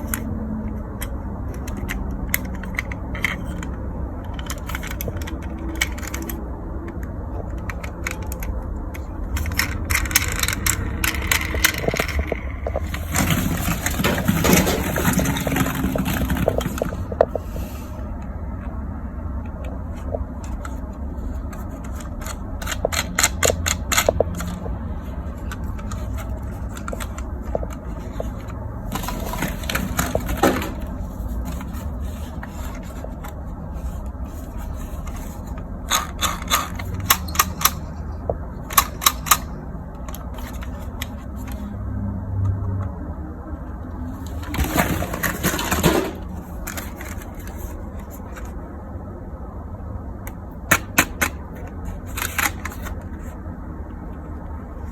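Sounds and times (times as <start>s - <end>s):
plastic toys clicking and rattling: 0.0s - 17.5s, 19.6s - 41.6s, 44.2s - 48.6s, 50.3s - 53.4s.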